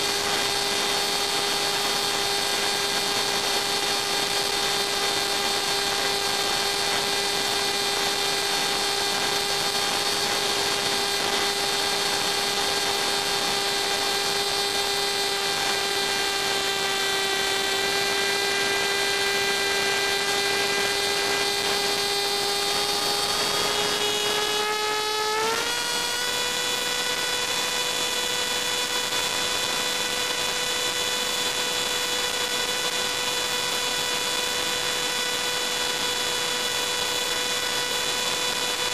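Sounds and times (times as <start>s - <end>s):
electric motor propeller whining: 0.0s - 38.9s.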